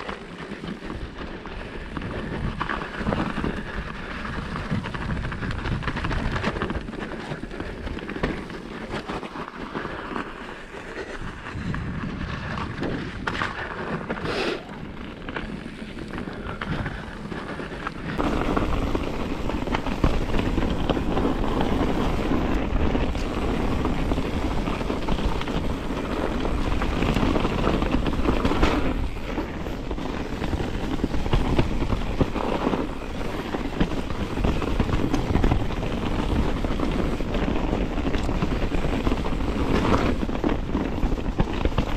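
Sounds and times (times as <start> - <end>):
bike knocking and rattling: 0.0 - 41.9
bike tyre rumble: 0.0 - 41.9
wind buffeting microphone: 0.7 - 41.9.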